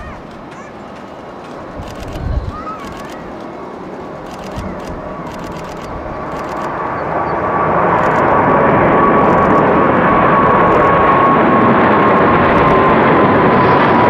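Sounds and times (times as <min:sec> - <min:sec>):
high jet engine whine: 0:00.0 - 0:14.0
jet engine roar: 0:00.0 - 0:14.0.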